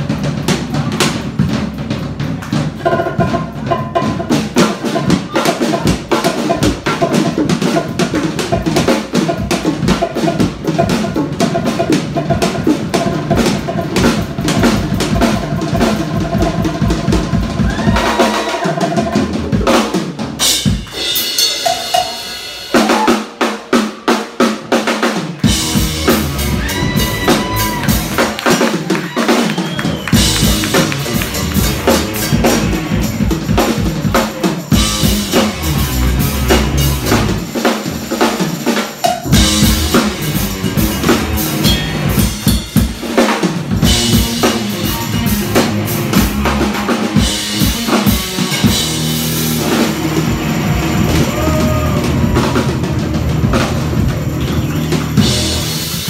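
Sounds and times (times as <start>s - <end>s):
drum kit solo: 0.0s - 56.0s.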